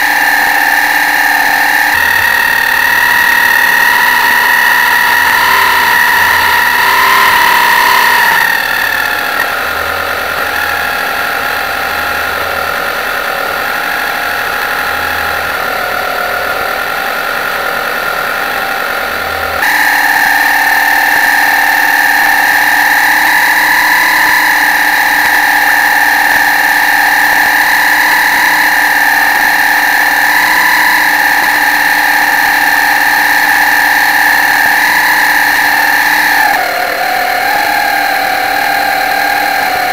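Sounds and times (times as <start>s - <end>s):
model boat motor whining: 0.0s - 39.9s.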